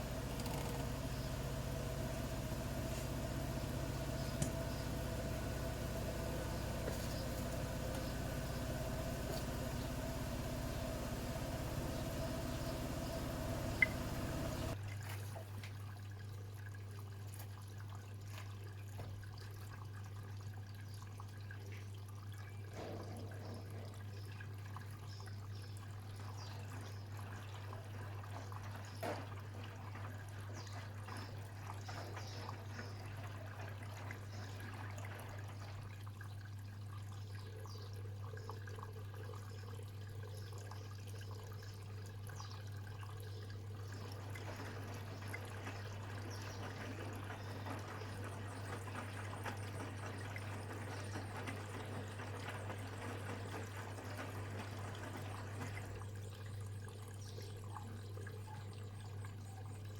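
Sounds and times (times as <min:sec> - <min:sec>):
washing machine low hum: 0:00.0 - 0:15.5, 0:22.5 - 0:38.0, 0:39.0 - 0:59.9
water trickling and dripping: 0:00.0 - 0:59.9.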